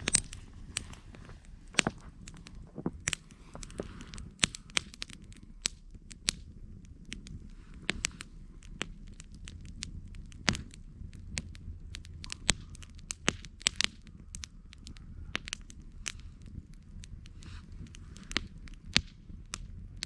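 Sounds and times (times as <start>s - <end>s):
campfire crackling and popping: 0.0s - 20.0s
steady low rumble: 0.0s - 20.0s.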